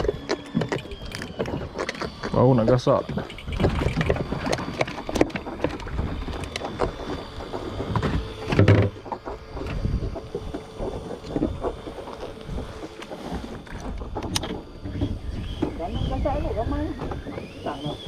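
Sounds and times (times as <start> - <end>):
water noise: 0.0 - 18.0
wind: 0.0 - 18.0.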